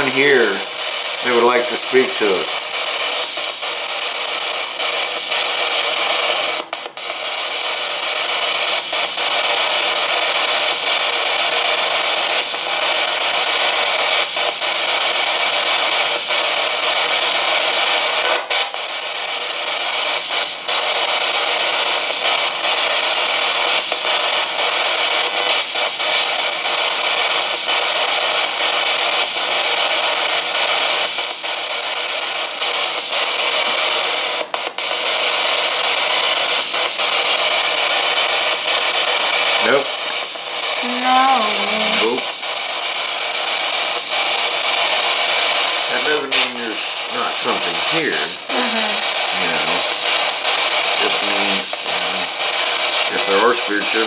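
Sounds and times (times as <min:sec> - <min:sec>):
radio static hiss: 0:00.0 - 0:54.0.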